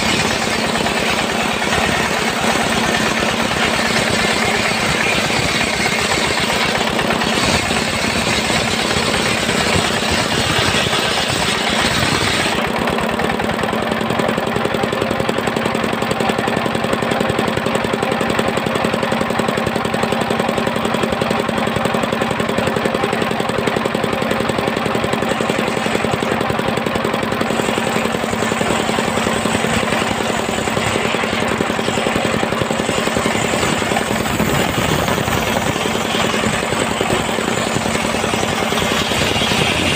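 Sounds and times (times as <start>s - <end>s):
engine-driven sawmill running: 0.0s - 39.9s.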